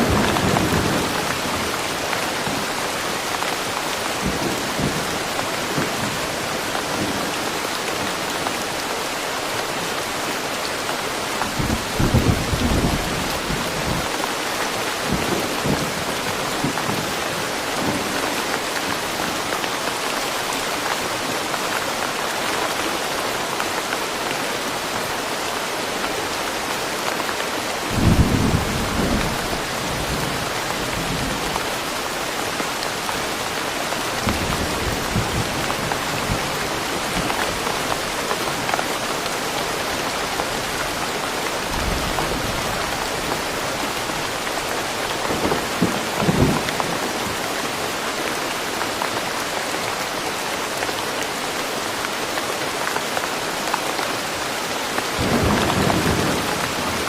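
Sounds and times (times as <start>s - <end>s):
steady rain in a forest: 0.0s - 57.0s.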